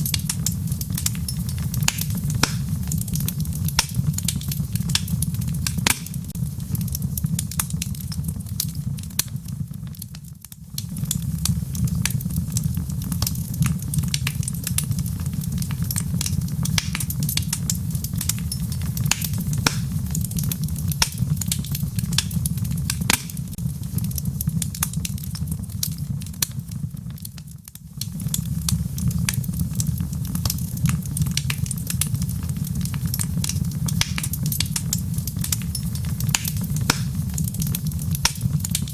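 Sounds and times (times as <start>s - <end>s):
logs crackling and popping: 0.0s - 38.9s
low rumble of flame: 0.0s - 38.9s.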